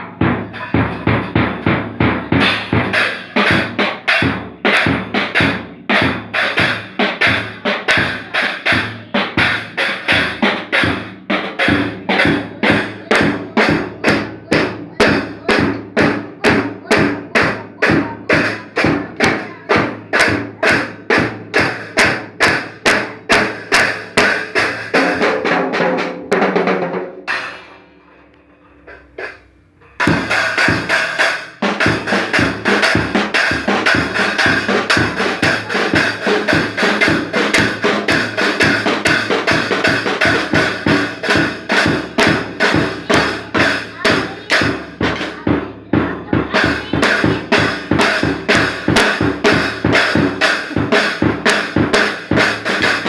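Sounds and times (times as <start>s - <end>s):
child hitting drum kit: 0.0s - 28.1s, 28.8s - 53.0s.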